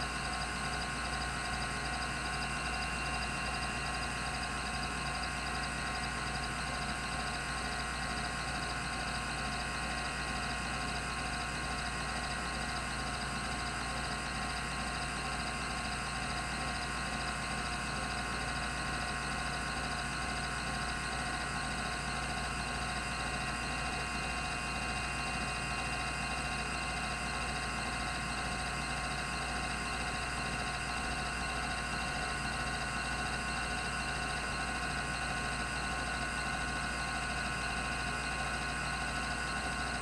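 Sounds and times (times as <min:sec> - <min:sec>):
hard drive whine: 0:00.0 - 0:40.0.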